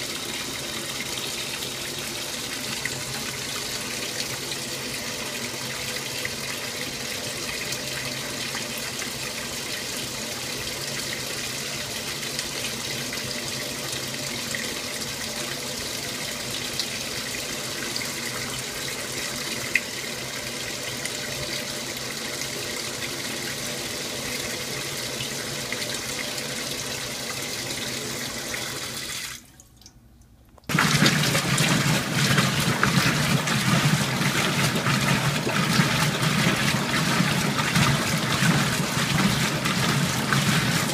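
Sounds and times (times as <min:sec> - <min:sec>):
washing machine water sloshing: 0:00.0 - 0:29.8, 0:30.7 - 0:40.9
water pouring into washing machine: 0:00.0 - 0:29.8, 0:30.7 - 0:40.9.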